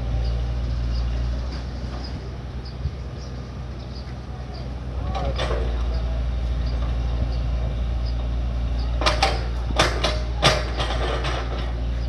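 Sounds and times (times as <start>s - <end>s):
excavator engine rumbling: 0.0s - 12.0s.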